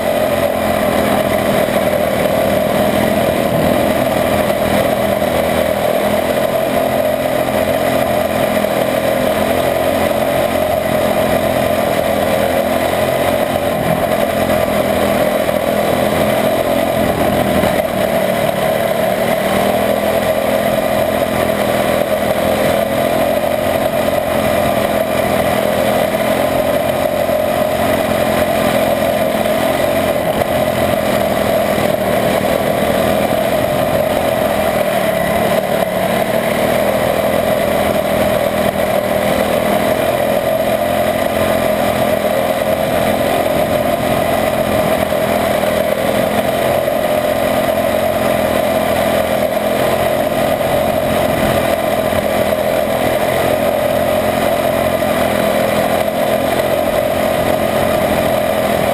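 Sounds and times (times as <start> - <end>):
small engine buzzing: 0.0 - 58.9.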